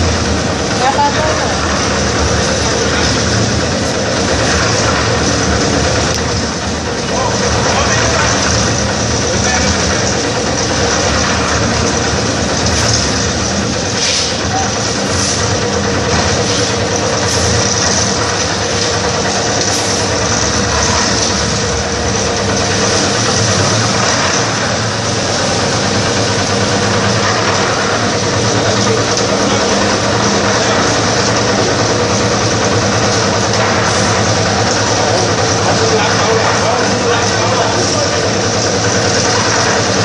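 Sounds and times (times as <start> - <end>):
concrete mixer engine running: 0.0 - 40.0.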